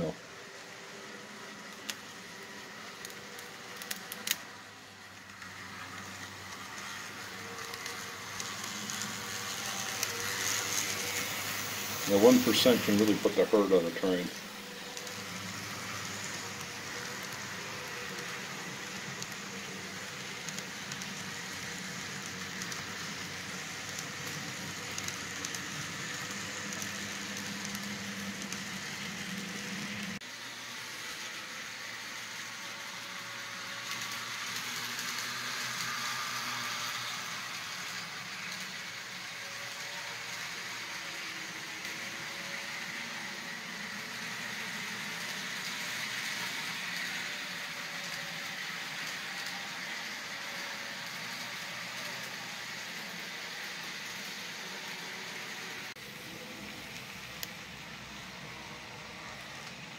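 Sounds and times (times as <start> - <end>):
model train wheels rattling on rails: 0.0 - 59.9.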